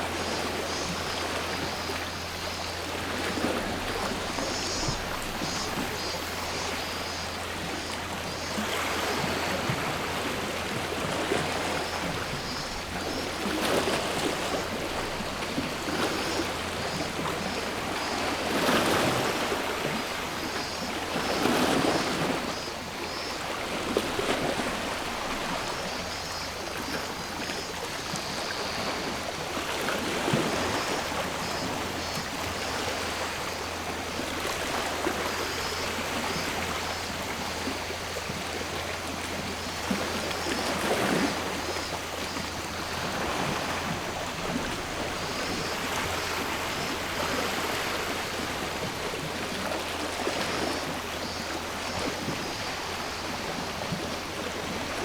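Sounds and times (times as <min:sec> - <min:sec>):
cicadas buzzing: 0:00.0 - 0:55.0
sea waves washing ashore: 0:00.0 - 0:55.0.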